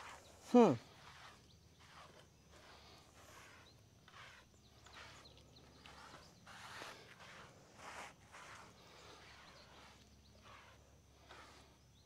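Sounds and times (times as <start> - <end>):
faint swishing strokes: 0.0 - 11.8.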